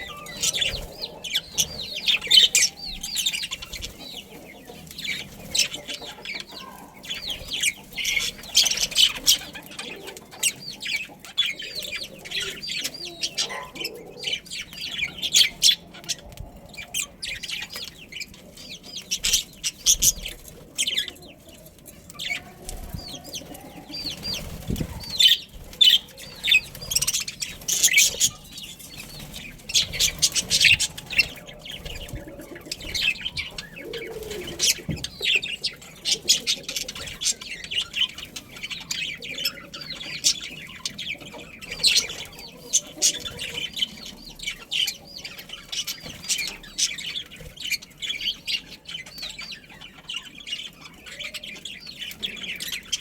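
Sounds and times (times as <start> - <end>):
budgerigars chirping and chattering: 0.0 - 53.0.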